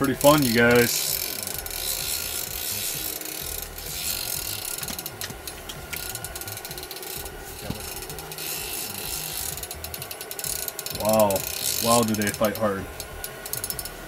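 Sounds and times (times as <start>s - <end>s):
fishing reel clicking and whirring: 0.0s - 14.0s.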